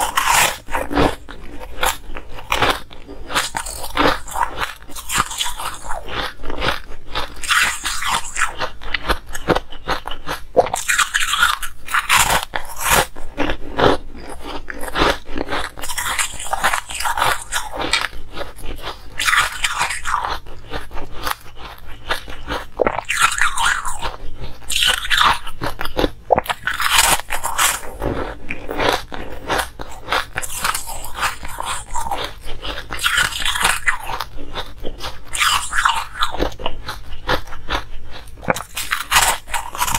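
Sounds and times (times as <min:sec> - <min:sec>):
ice crunched between teeth: 0:00.0 - 0:39.9.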